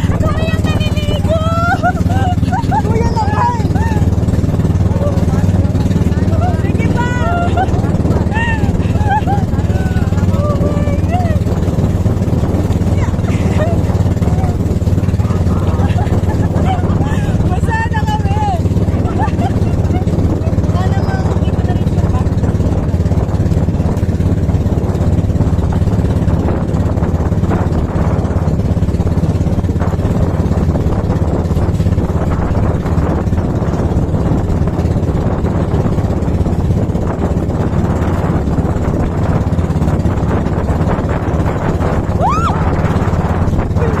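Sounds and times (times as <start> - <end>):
motorboat engine running: 0.0 - 44.0.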